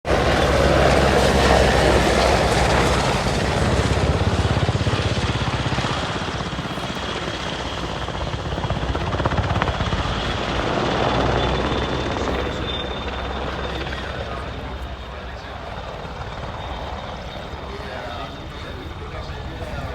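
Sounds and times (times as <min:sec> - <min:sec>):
helicopter rotor chop: 0:00.1 - 0:19.9.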